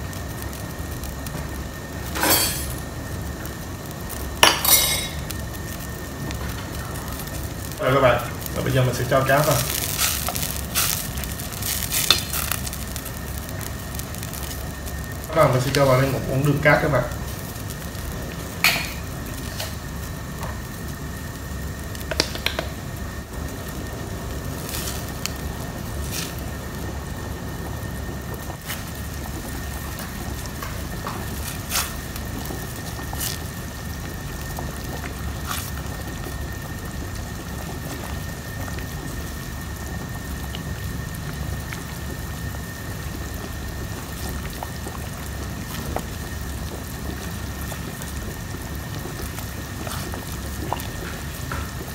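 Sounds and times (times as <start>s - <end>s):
soup boiling with pops: 0.0s - 51.9s.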